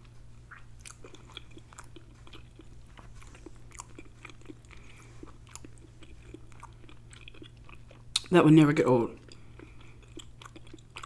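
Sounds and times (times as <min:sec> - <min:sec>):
person chewing food: 0:00.0 - 0:08.3, 0:09.2 - 0:11.0
low steady hum: 0:00.0 - 0:11.0.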